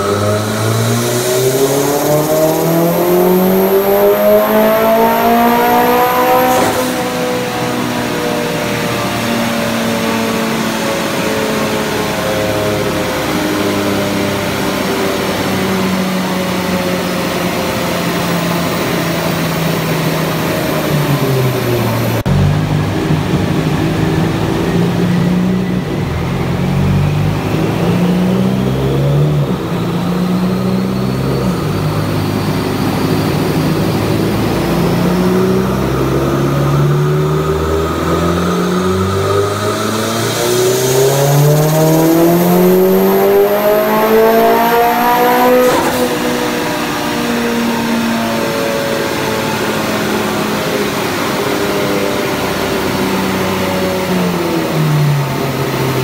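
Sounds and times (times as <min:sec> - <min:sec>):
car engine revving on dyno: 0:00.0 - 0:56.0.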